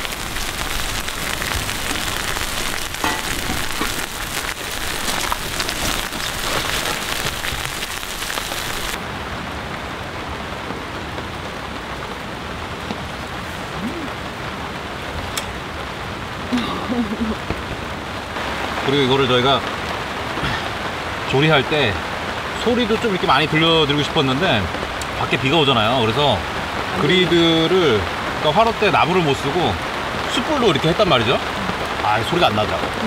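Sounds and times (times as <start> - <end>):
heavy rain drumming on a tarp: 0.0 - 33.0.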